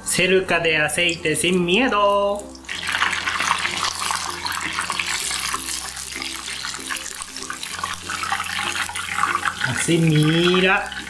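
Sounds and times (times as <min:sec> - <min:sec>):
oil sizzling and crackling: 0:01.0 - 0:11.0.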